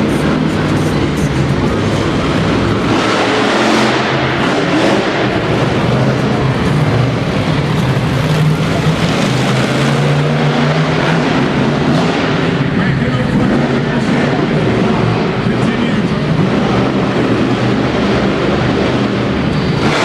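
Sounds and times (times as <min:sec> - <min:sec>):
dense wash of noise: 0:00.0 - 0:20.0
truck engine revving: 0:00.0 - 0:20.0.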